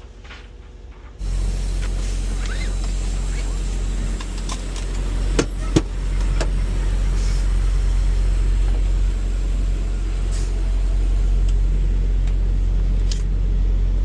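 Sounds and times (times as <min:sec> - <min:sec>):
diesel truck engine drone: 0:00.0 - 0:14.0
road noise: 0:01.2 - 0:14.0.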